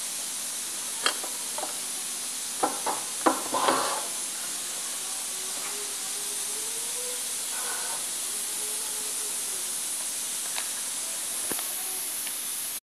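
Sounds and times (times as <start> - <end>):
steady high hiss: 0.0 - 12.8.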